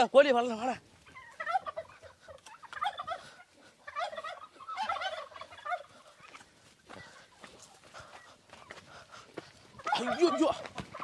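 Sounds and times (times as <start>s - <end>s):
turkeys gobbling: 0.4s - 11.0s.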